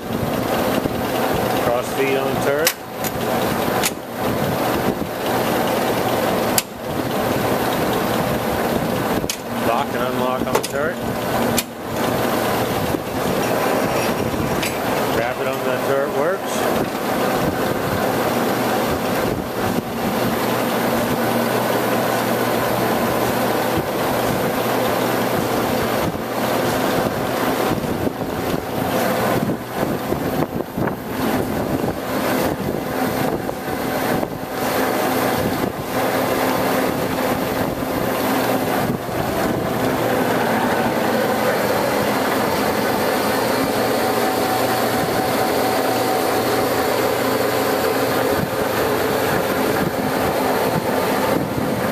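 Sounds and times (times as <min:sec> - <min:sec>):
lathe running: 0:00.0 - 0:51.9.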